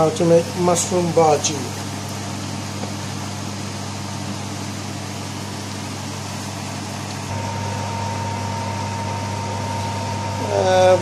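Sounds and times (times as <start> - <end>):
mechanical hum with low drone: 0.0 - 11.0
steady higher whine: 0.0 - 11.0.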